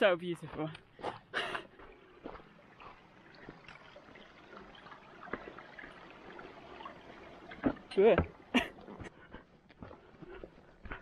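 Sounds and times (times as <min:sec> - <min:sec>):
stream trickling over stones: 0:00.0 - 0:10.9.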